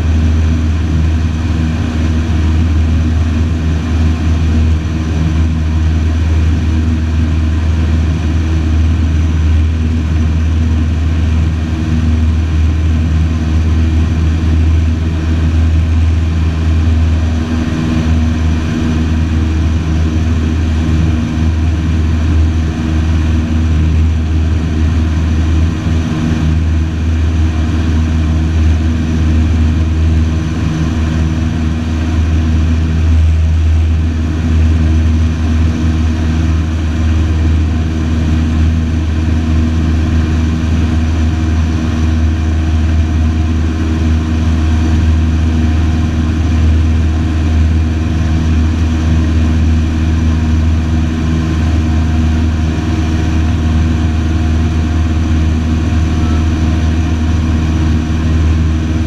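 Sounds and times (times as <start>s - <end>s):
light aircraft engine drone: 0.0s - 59.0s.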